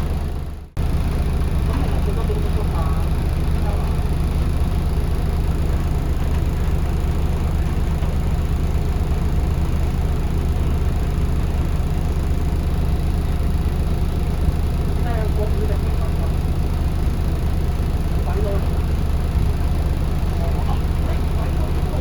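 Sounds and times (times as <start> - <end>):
bus engine low hum: 0.0 - 22.0.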